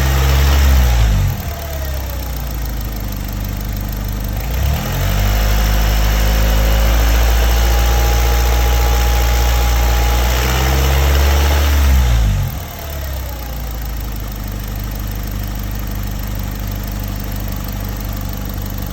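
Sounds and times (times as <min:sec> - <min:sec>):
car engine revving and idling: 0:00.0 - 0:18.9.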